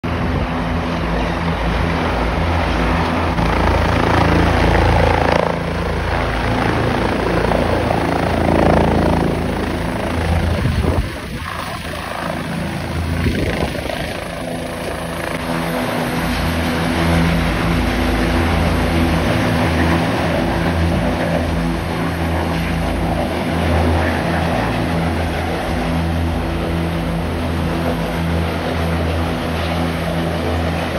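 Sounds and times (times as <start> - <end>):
helicopter engine and rotors: 0.0 - 30.9.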